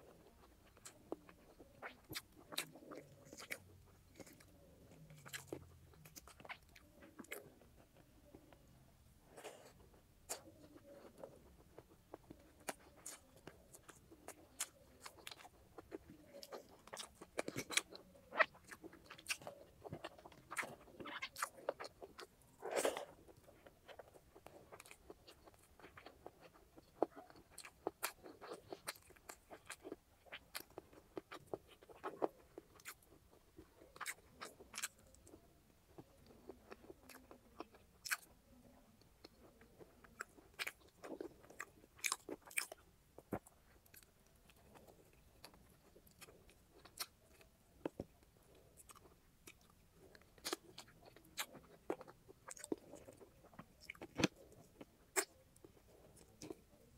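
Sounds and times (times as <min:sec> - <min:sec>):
chewing with crisp crunches: 0:00.0 - 0:56.9.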